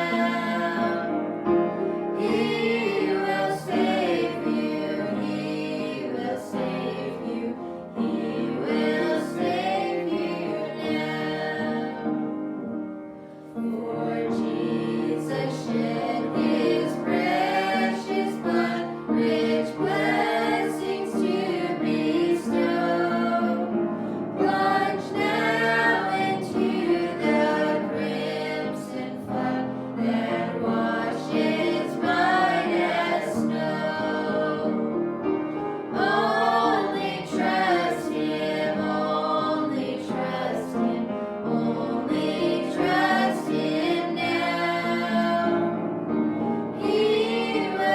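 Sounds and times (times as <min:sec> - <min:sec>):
voices singing a hymn: 0:00.0 - 0:47.9.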